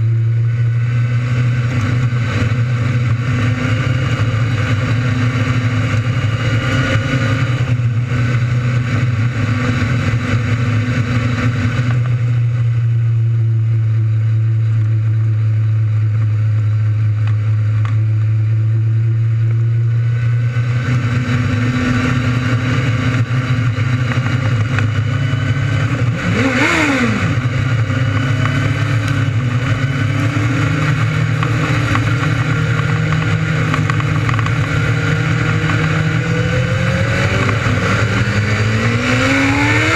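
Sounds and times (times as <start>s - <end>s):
racing engines running hard: 0.0s - 39.9s.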